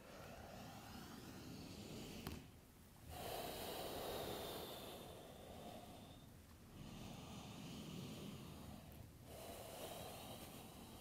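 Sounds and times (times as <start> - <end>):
person breathing deeply: 0.0 - 11.0.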